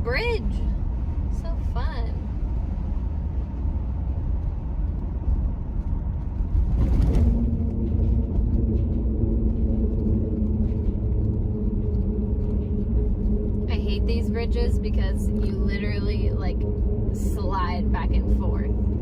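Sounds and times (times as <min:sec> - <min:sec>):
car road rumble from inside: 0:00.0 - 0:19.0.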